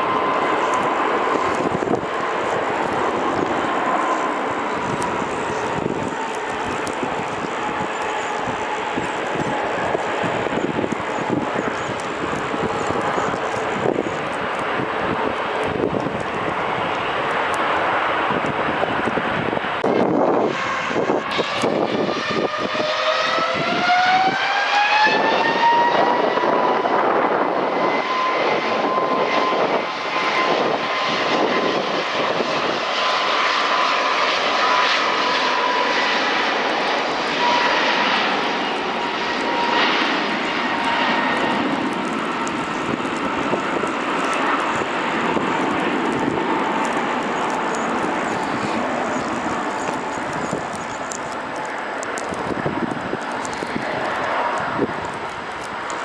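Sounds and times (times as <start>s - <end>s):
jet engine roar: 0.0s - 56.0s
jet engine whine rising: 0.0s - 56.0s.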